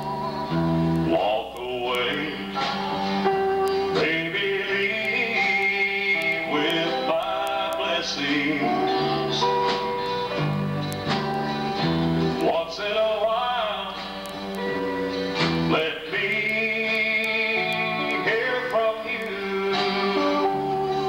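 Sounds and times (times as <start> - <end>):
electric bass: 0.0 - 5.6, 6.2 - 21.0
drums: 0.0 - 21.0.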